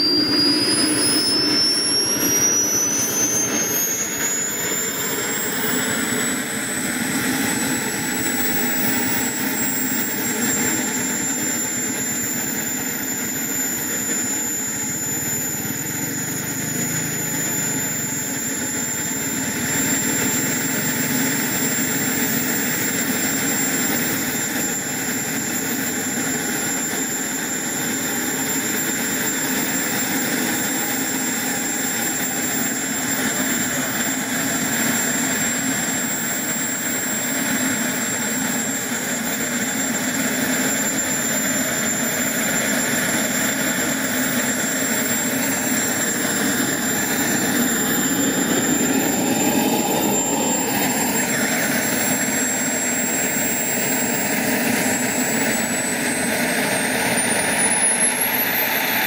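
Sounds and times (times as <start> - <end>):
jet turbine idling: 0.0 - 59.0.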